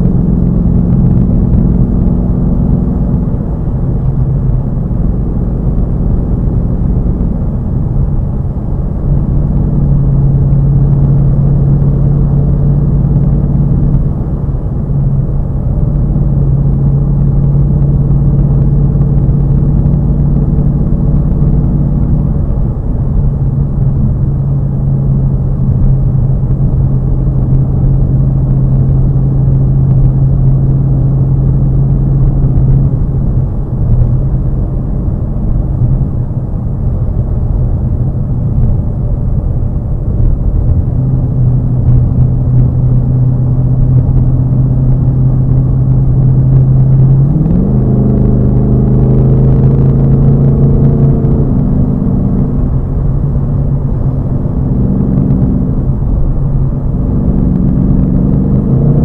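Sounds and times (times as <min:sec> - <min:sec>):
car engine drone: 0:00.0 - 0:59.0
road noise: 0:00.0 - 0:59.0.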